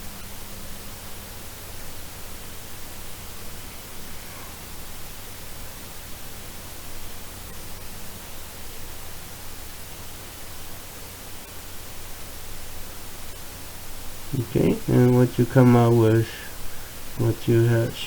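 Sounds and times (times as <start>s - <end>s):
background hiss: 0.0s - 18.0s
faint low hum: 0.0s - 18.0s.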